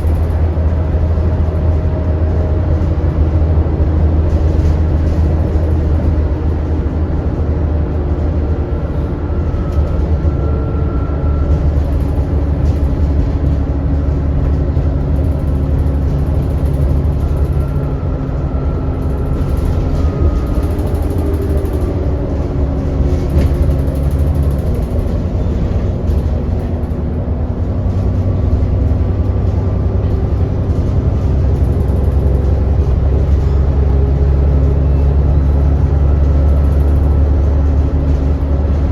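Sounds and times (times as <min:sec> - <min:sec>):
bus engine droning: 0:00.0 - 0:38.9
road noise: 0:00.0 - 0:38.9.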